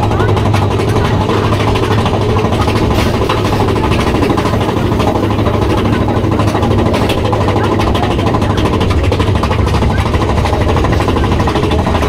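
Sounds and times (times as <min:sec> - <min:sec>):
roller coaster wheels rumbling: 0:00.0 - 0:12.0.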